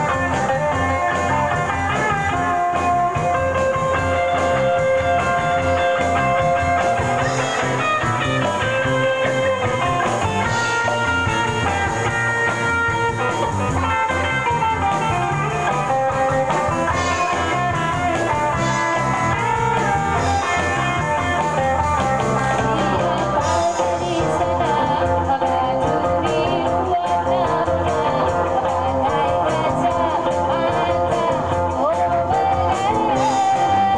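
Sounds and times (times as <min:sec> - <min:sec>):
bass: 0:00.0 - 0:33.9
drum kit: 0:00.0 - 0:33.9
electric guitar: 0:00.0 - 0:33.9.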